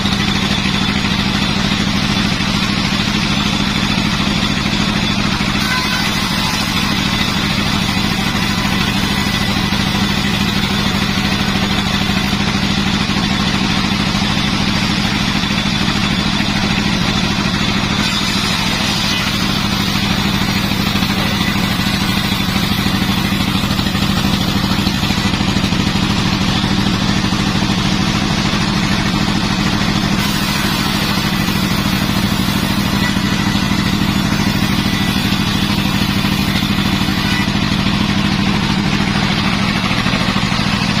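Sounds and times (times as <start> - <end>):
sawmill machinery drone: 0.0 - 41.0.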